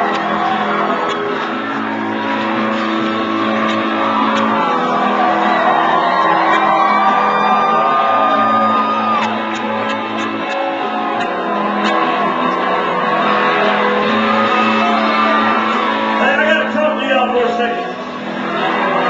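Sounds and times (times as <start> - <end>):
electric guitar: 0.0 - 16.2
crowd shouting and whooping: 0.0 - 19.0
live country band playing: 0.0 - 19.0.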